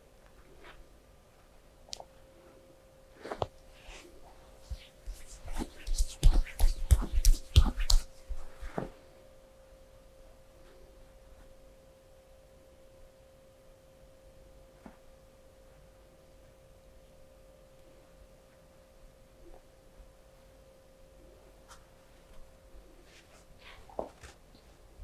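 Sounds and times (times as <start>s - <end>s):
faint mid-pitched hum: 0.0s - 25.0s.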